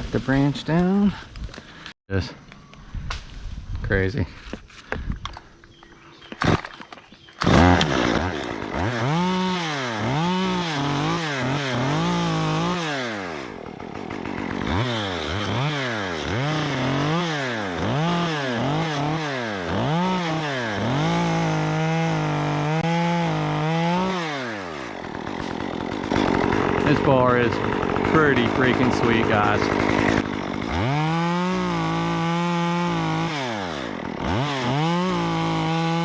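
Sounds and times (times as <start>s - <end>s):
chainsaw revving: 6.4s - 6.8s, 7.4s - 36.0s.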